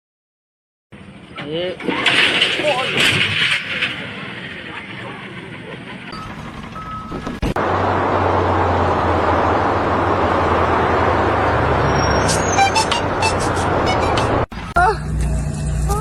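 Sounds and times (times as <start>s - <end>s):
vehicle engine humming: 3.0s - 16.0s.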